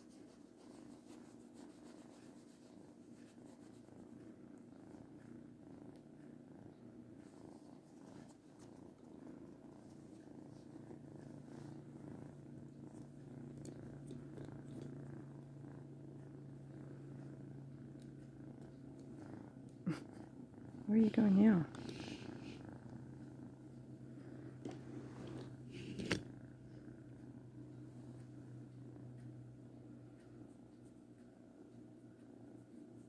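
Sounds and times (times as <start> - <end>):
kitten purring: 0.0 - 33.0.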